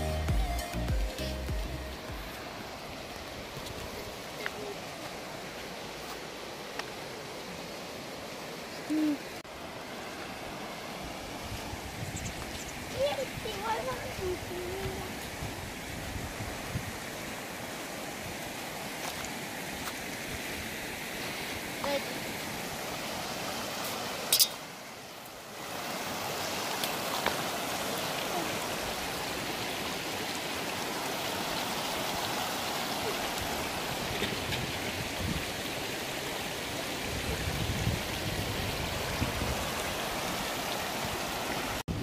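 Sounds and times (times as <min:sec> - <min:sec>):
river rapids rushing over stones: 0:00.6 - 0:11.6, 0:12.8 - 0:42.0.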